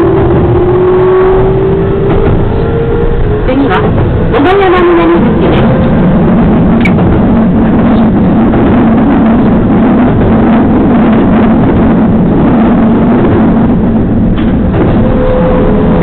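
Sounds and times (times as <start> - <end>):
electric train running rumble: 0.0 - 16.0.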